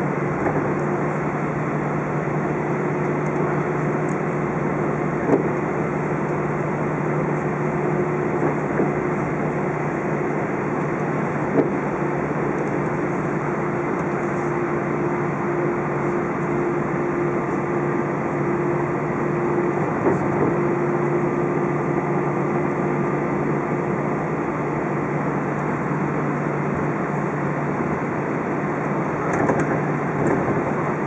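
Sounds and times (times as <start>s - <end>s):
aircraft engines idling: 0.0s - 31.0s
steady hum: 0.0s - 31.0s.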